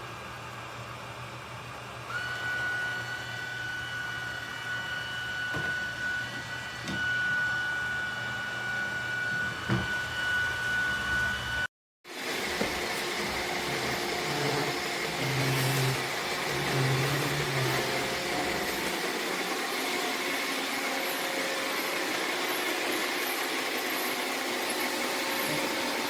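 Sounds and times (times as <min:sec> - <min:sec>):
robot vacuum humming: 0:02.1 - 0:26.0.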